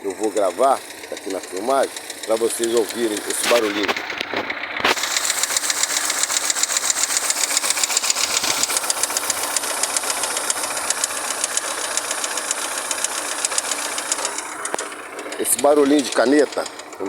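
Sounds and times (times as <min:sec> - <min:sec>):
car engine running: 0:00.0 - 0:17.0
rapid even engine ticking: 0:00.0 - 0:17.0.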